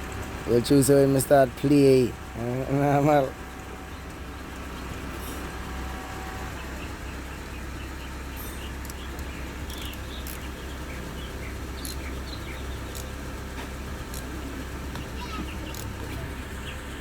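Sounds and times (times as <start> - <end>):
birds chirping: 0.0 - 17.0
motorcycle engine idling: 0.0 - 17.0.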